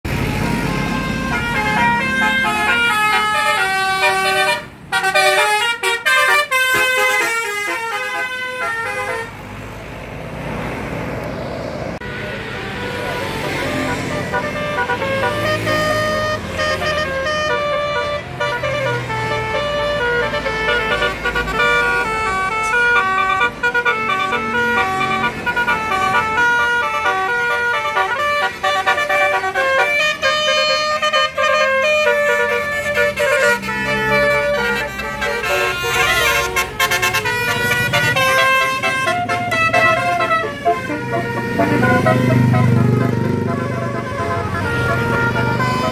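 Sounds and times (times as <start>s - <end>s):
low bus engine rumble: 0.0s - 45.9s
multi-tone air horns playing notes: 0.1s - 9.4s, 12.0s - 45.9s.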